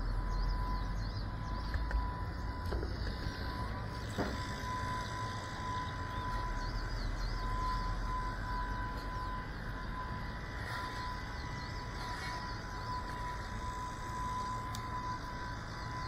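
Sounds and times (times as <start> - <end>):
drone motors whining at idle: 0.0 - 16.0.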